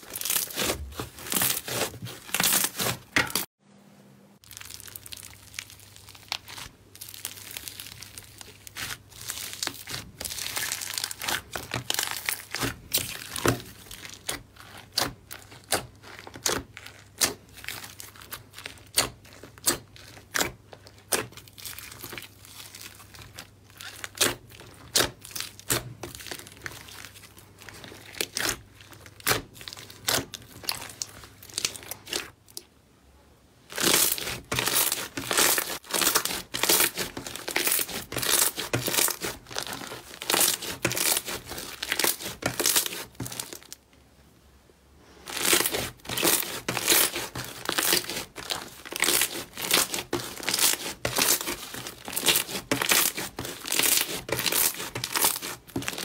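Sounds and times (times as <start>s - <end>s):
slime crackling and popping: 0.0s - 3.5s, 4.4s - 32.6s, 33.7s - 43.8s, 45.2s - 56.0s.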